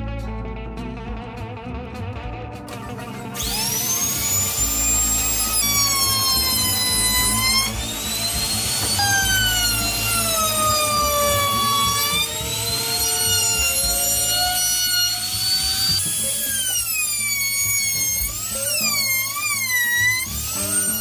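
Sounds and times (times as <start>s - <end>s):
power tool motor whining: 2.8s - 21.0s.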